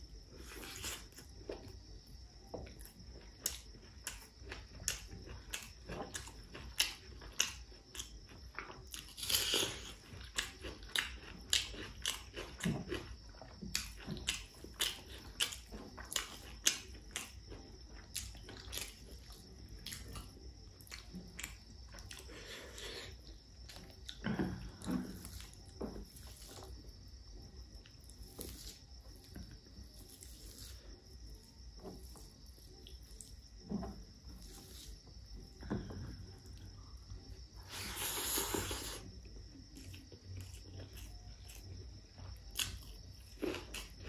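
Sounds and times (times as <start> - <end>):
person chewing food: 0.1 - 44.0.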